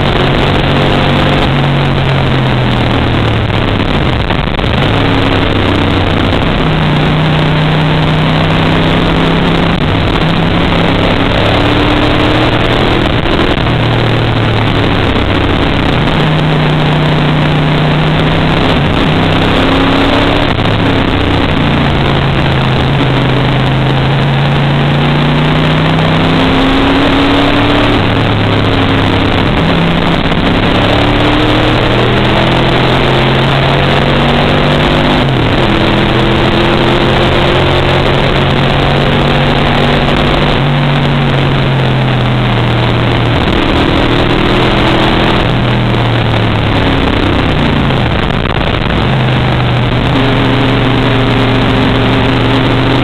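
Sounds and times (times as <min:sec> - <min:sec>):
loud rush of noise: 0:00.0 - 0:53.0
race car engine revving: 0:00.0 - 0:53.0.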